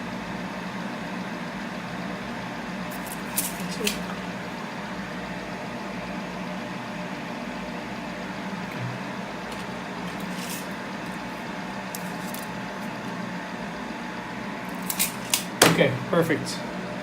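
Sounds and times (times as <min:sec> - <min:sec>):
machine fans whirring: 0:00.0 - 0:17.0.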